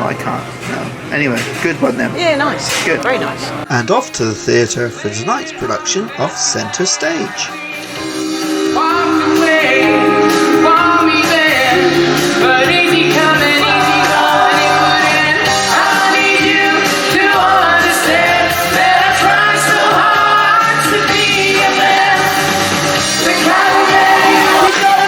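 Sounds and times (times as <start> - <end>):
band backing music: 2.6 - 25.0
person singing show tune: 3.7 - 25.0.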